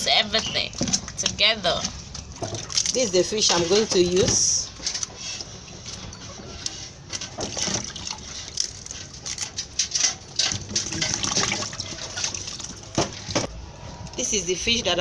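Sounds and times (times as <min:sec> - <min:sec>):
water sloshing in a bowl: 0:00.0 - 0:13.5.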